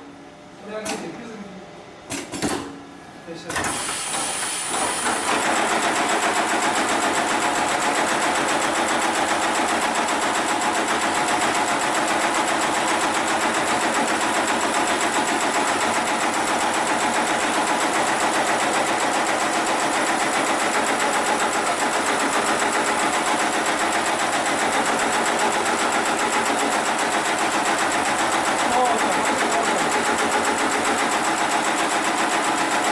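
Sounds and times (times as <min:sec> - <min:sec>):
sewing machine stitching: 0:03.6 - 0:32.9.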